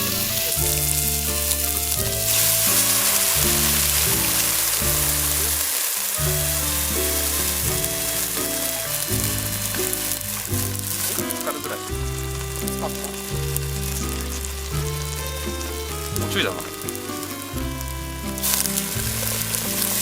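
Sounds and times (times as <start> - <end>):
background music: 0.0 - 20.0
pork sizzling in hot fat: 0.0 - 20.0.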